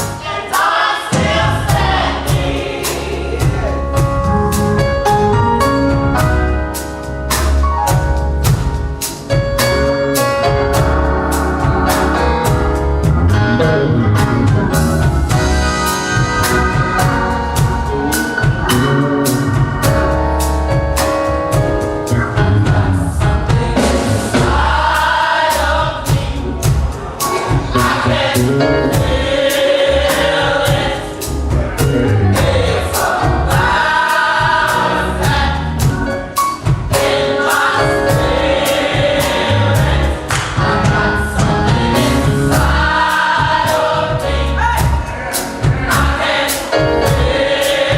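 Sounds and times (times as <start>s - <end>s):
band accompaniment with steady beat: 0.0s - 47.9s
gospel choir singing: 0.0s - 47.9s.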